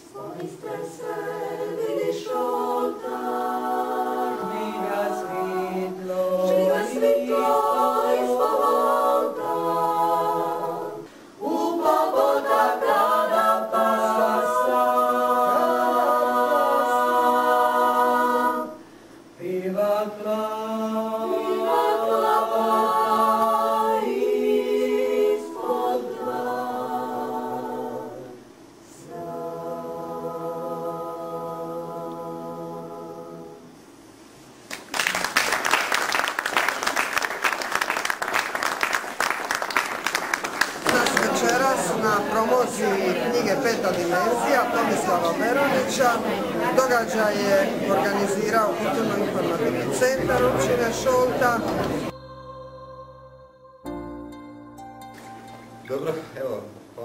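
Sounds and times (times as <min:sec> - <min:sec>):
women singing in harmony: 0:00.0 - 0:34.0, 0:40.9 - 0:54.0.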